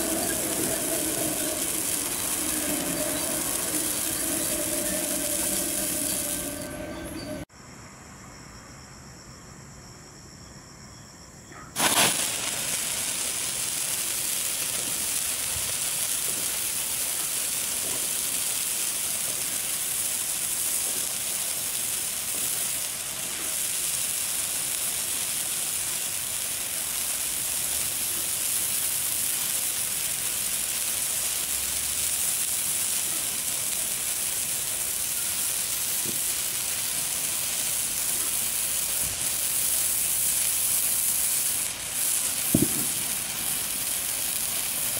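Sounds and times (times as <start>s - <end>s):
firework flaring: 0.0s - 7.5s, 11.8s - 44.9s
stick firework hissing: 0.0s - 7.5s, 11.8s - 44.9s.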